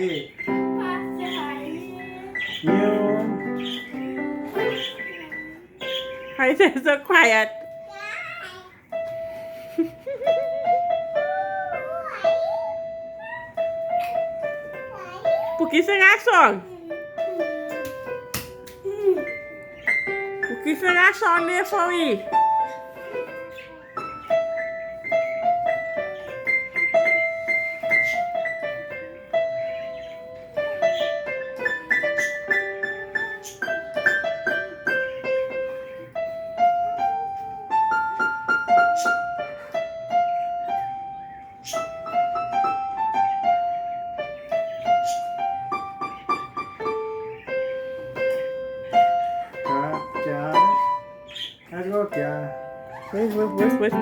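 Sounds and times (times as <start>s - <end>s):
keyboard playing slow melody: 0.0s - 6.6s, 7.3s - 54.0s.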